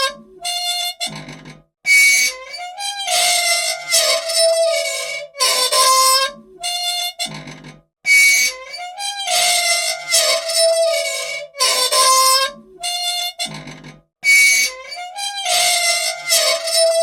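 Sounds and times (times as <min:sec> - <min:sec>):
machine squeaking: 0:00.0 - 0:17.0.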